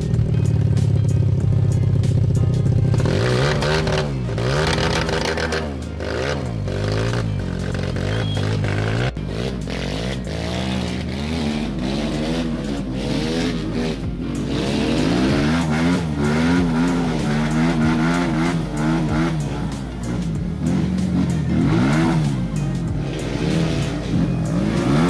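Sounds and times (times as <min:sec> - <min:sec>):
dirt bike engine revving: 0:02.8 - 0:25.0.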